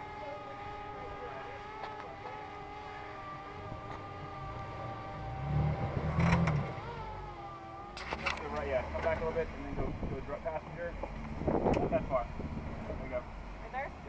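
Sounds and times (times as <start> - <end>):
car engine running: 0.0 - 14.0
steady whine: 0.0 - 14.0.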